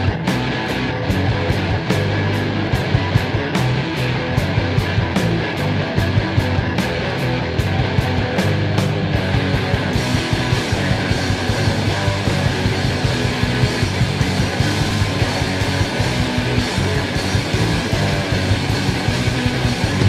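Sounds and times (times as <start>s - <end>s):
distorted heavy rock music: 0.0s - 20.0s.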